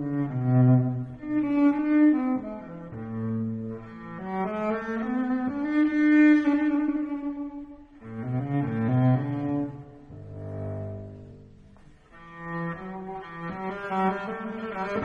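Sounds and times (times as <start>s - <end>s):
slow bowed string music: 0.0s - 15.0s.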